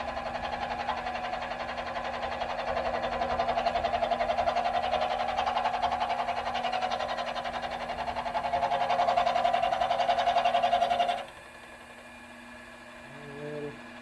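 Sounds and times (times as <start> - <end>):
lathe motor and gear whine: 0.0 - 14.0.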